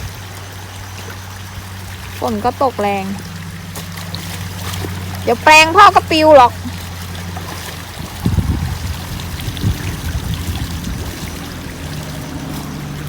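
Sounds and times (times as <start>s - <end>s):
water running and pouring: 0.0s - 13.0s.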